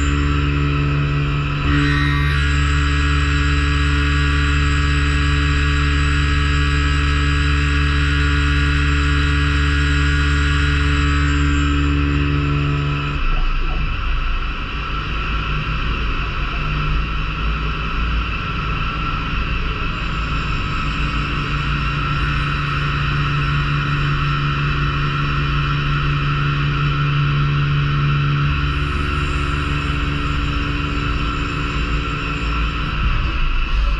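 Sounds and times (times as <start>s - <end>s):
lathe machine hum: 0.0s - 33.9s.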